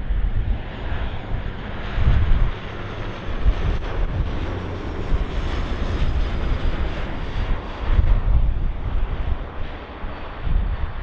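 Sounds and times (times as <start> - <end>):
airliner engines roaring: 0.0 - 11.0.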